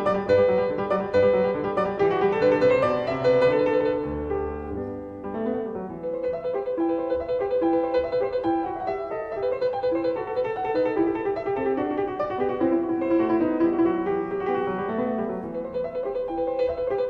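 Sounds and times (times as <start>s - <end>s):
gentle classical piano piece: 0.0s - 17.0s.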